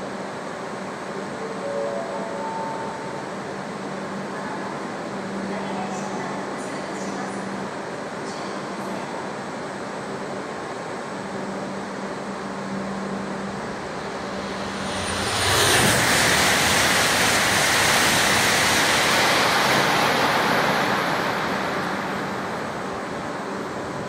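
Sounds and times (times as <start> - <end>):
high-speed train rushing past: 0.0 - 24.0.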